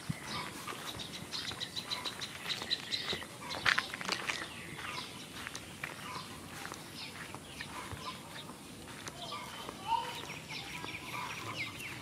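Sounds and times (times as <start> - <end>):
footsteps on dirt road: 0.0 - 12.0
small birds chirping: 0.0 - 12.0.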